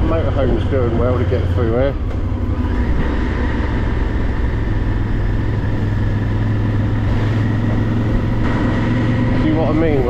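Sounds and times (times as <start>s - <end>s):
motorcycle engine humming: 0.0s - 10.0s
road noise: 0.0s - 10.0s.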